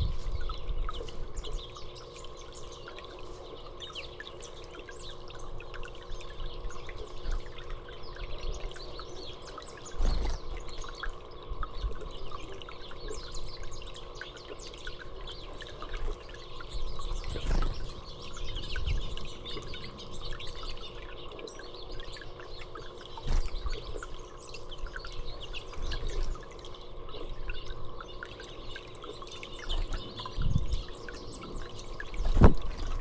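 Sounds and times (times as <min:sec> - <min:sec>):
songbirds chirping: 0:00.0 - 0:33.0
water trickling: 0:00.0 - 0:33.0.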